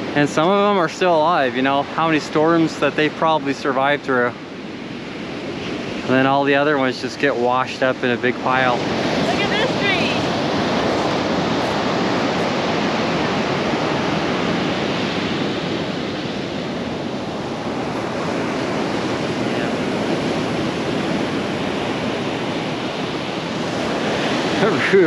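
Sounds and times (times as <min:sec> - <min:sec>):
surf waves breaking on beach: 0:00.0 - 0:25.0.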